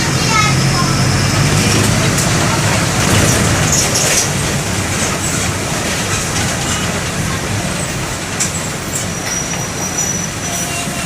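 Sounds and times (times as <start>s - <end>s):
diesel bus engine rumble: 0.0s - 11.0s
road noise: 0.0s - 11.0s.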